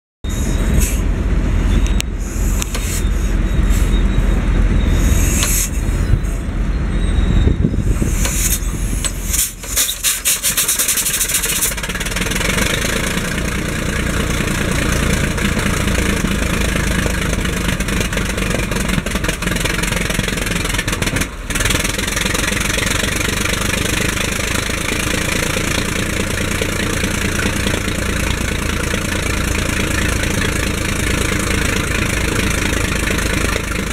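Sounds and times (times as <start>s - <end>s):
tractor engine starting: 0.3s - 33.9s.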